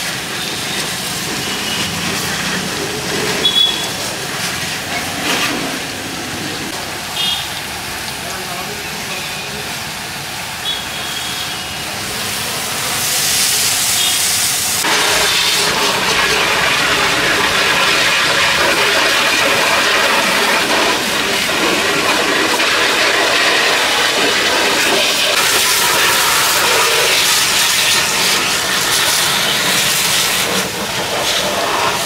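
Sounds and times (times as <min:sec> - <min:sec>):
pressure washer spray hiss: 0:00.0 - 0:08.0, 0:08.8 - 0:32.0.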